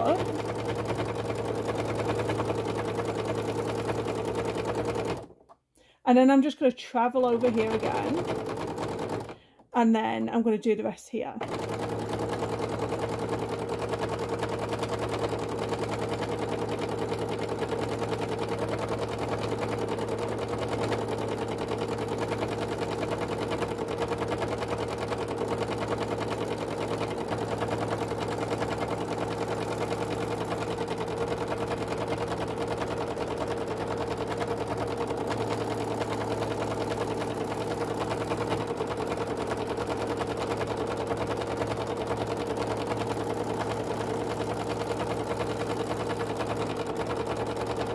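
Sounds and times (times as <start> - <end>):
sewing machine running: 0.0 - 5.4, 7.1 - 9.6, 11.4 - 47.9.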